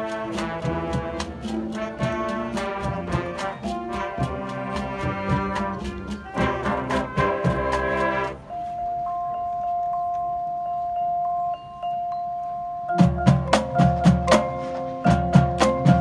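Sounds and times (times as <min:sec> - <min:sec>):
mallet percussion playing: 0:00.0 - 0:16.0.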